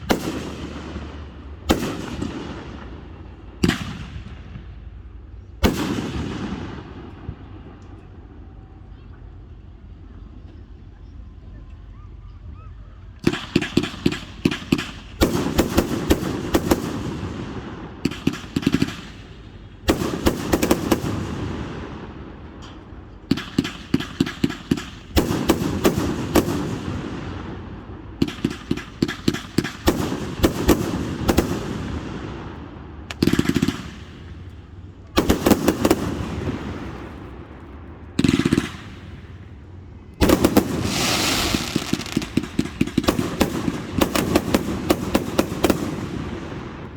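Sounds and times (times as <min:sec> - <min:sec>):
fireworks bangs and crackles: 0:00.0 - 0:07.8, 0:13.2 - 0:46.9.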